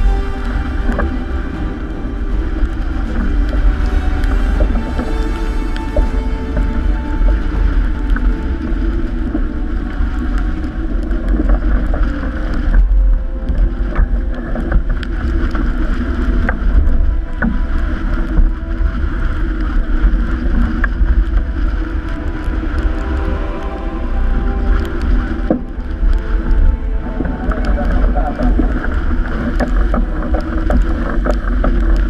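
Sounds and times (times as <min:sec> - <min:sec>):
waves rushing along hull: 0:00.0 - 0:32.0
wind buffeting microphone: 0:00.0 - 0:32.0.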